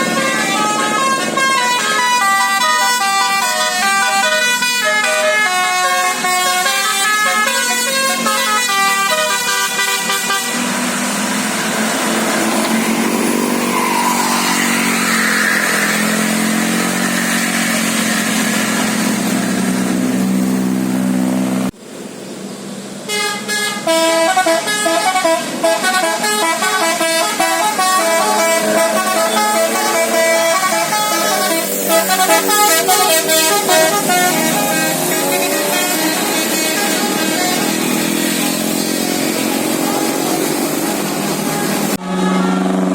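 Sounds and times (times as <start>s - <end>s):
musical bus air horns: 0.0s - 20.8s, 23.1s - 42.9s
dense vehicle noise: 0.0s - 42.9s.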